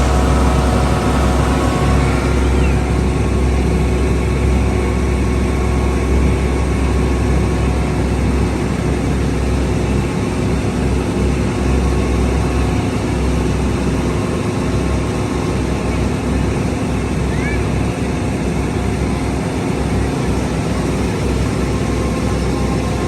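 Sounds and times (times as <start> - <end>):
boat engine rumble: 0.0 - 23.0.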